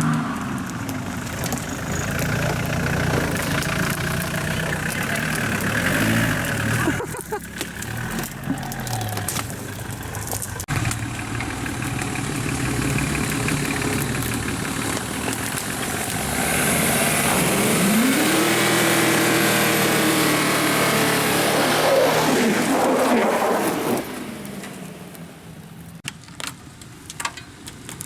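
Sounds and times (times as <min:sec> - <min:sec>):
car engine revving: 0:00.0 - 0:25.4.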